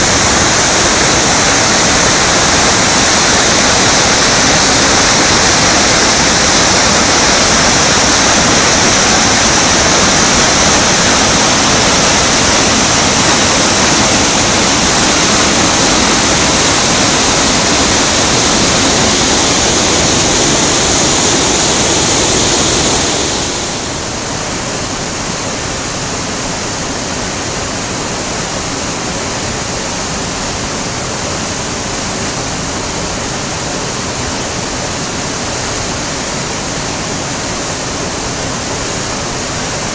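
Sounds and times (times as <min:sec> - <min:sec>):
floodwater rushing over rocks: 0:00.0 - 0:39.9.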